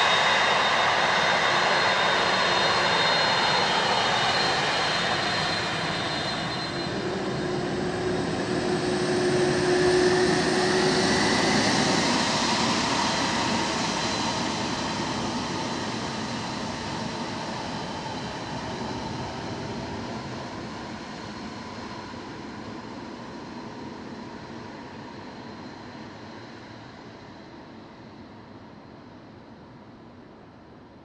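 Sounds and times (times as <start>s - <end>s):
jet engines whining while taxiing: 0.0s - 31.0s.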